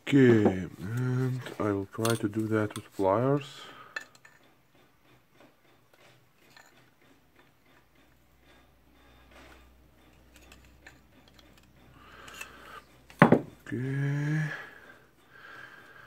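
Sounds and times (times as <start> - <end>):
metallic ticks and scrapes: 0.1 - 13.8.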